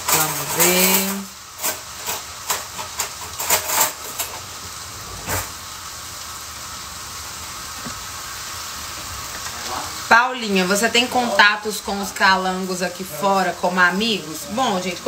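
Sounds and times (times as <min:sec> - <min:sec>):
food sizzling in a pan: 0:00.0 - 0:15.0
pops and crackles of frying: 0:00.0 - 0:15.0.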